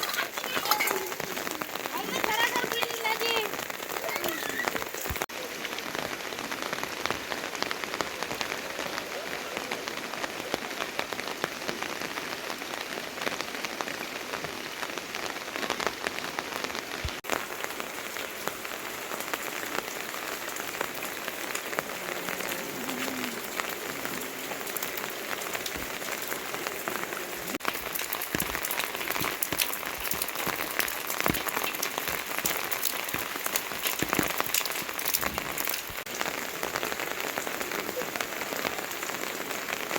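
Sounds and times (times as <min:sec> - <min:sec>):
raindrops spattering close by: 0:00.0 - 0:39.9
steady rain: 0:00.0 - 0:39.9.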